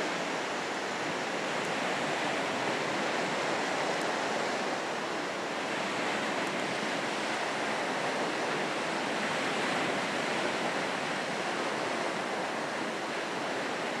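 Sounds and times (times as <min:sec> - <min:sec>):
sea surf rushing: 0:00.0 - 0:14.0.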